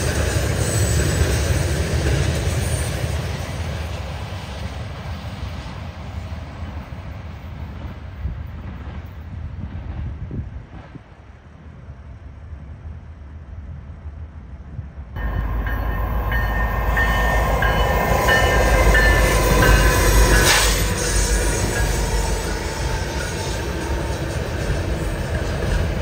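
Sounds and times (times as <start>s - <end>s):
faint departing train: 0.0s - 26.0s
freight train rumbling: 0.0s - 26.0s.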